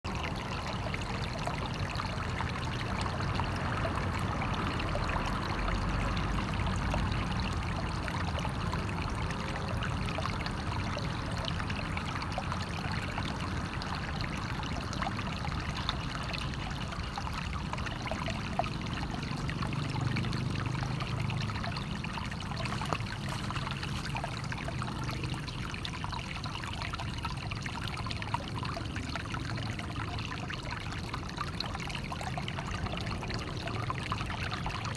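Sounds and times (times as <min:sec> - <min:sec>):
water flowing and splashing: 0:00.0 - 0:34.9.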